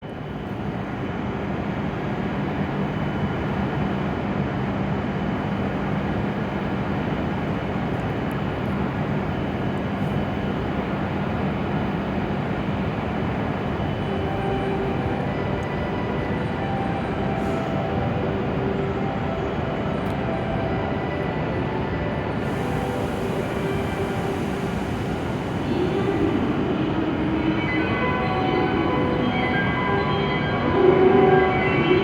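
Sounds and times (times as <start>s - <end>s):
train rumbling at platform: 0.0s - 32.0s.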